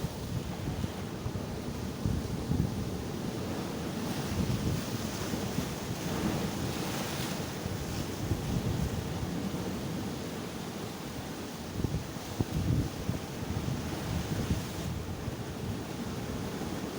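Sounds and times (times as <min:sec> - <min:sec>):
wind buffeting microphone: 0:00.0 - 0:10.0, 0:11.7 - 0:16.9
sea waves breaking on shore: 0:00.0 - 0:16.9.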